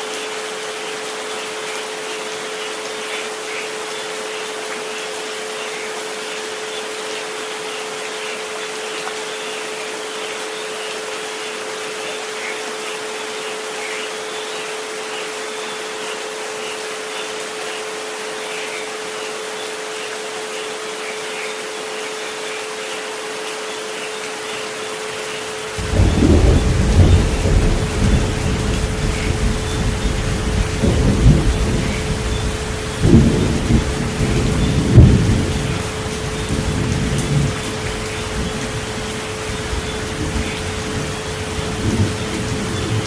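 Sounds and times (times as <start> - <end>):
falling rain hiss: 0.0 - 43.0.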